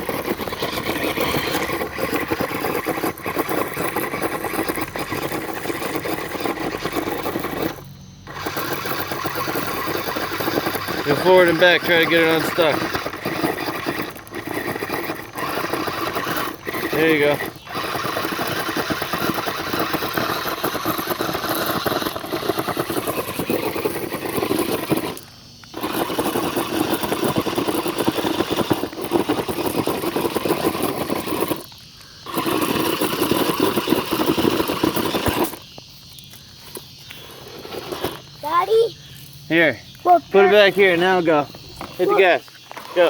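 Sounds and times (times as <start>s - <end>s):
tyres churning through loose rocks: 0.0s - 35.8s, 37.2s - 38.7s, 40.1s - 43.0s
toy truck motor at high throttle: 0.0s - 43.0s.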